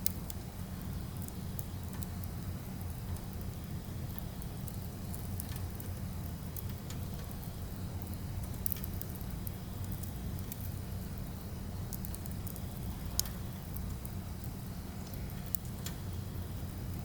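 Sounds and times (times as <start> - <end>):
fire low rumble: 0.0 - 17.0
firewood crackling and popping: 0.0 - 17.0.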